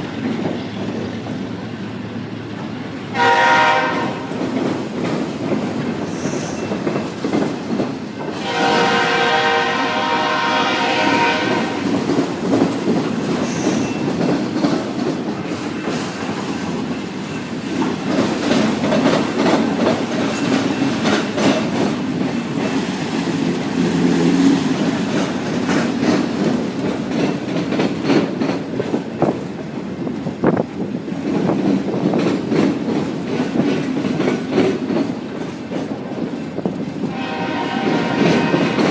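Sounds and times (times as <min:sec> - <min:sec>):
freight cars rumbling on rails: 0:00.0 - 0:38.9.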